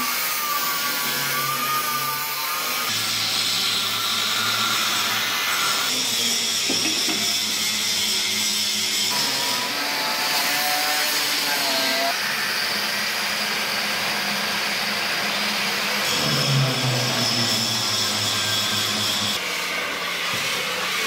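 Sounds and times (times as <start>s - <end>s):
angle grinders grinding steel: 0.0s - 21.0s.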